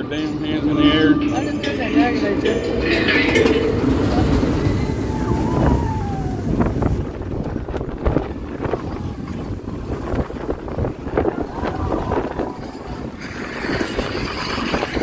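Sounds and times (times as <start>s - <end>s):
roller coaster rumbling on track: 0.0s - 15.0s
wind buffeting microphone: 0.0s - 15.0s.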